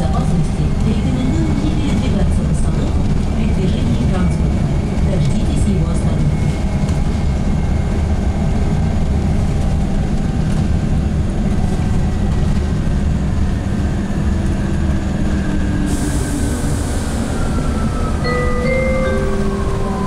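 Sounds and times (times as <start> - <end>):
bus road rumble: 0.0 - 20.0.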